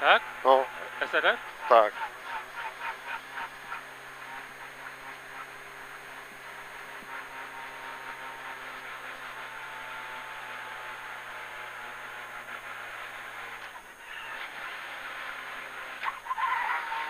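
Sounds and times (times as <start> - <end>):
rally car engine running: 0.0 - 17.0
tyre and road noise: 0.0 - 17.0.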